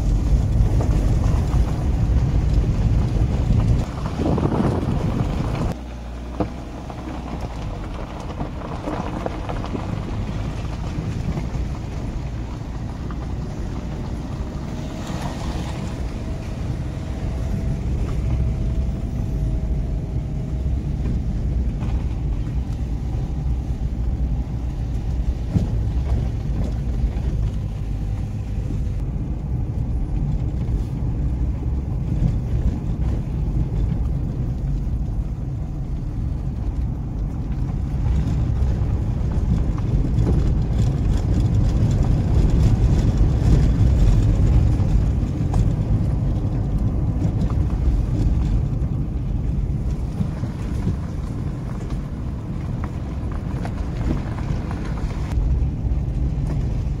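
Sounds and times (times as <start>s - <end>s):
car driving on gravel road: 0.0s - 57.0s.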